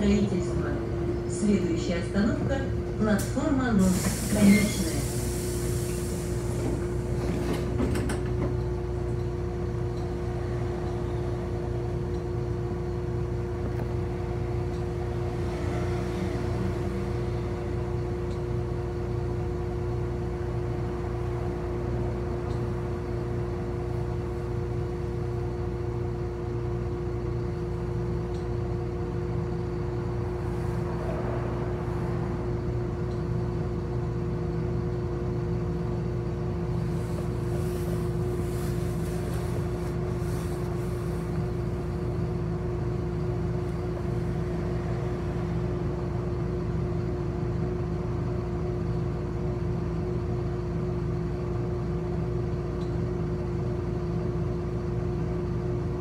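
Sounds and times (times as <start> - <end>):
bus running hum and whine: 0.0 - 56.0.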